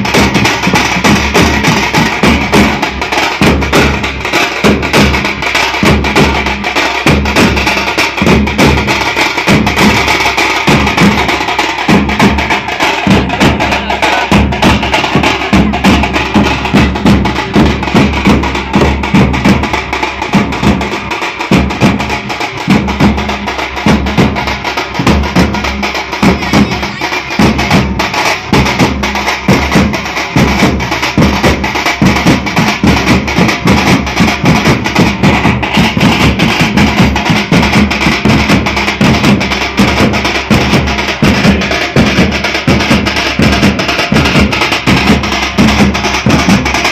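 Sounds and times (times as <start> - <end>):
drums playing fast beat: 0.0 - 46.9.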